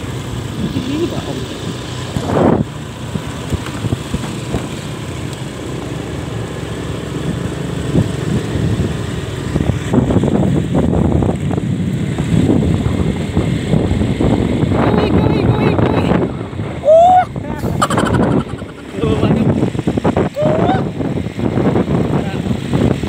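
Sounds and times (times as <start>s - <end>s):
wind buffeting microphone: 0.0s - 5.0s, 7.1s - 23.0s
motorcycle engine running: 0.0s - 16.8s, 17.4s - 20.2s.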